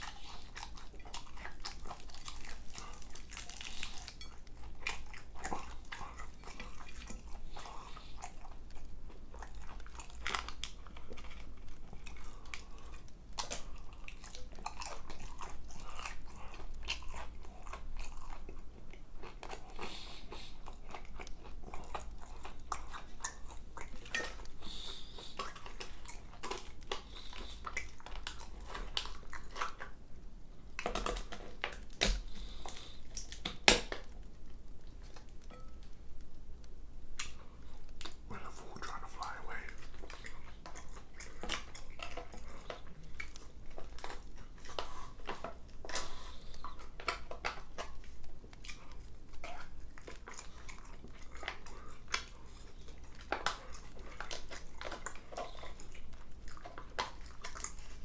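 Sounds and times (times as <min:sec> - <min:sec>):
crunchy chewing of fried chicken: 0:00.0 - 0:58.0.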